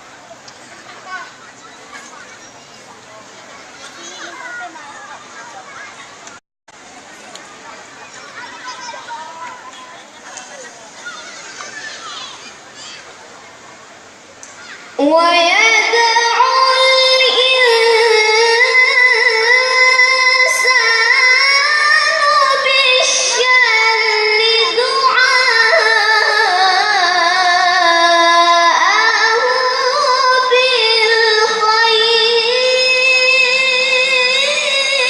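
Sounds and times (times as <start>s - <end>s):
child reciting melodically: 3.5s - 6.3s, 7.5s - 10.2s, 10.9s - 13.1s, 14.5s - 35.0s.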